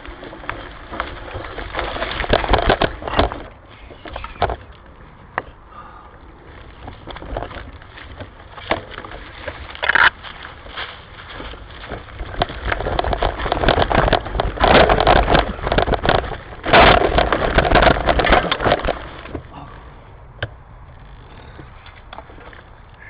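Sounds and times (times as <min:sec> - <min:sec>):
dry leaves and twigs crackling: 0:00.0 - 0:23.0
microphone handling rumble: 0:00.0 - 0:23.0.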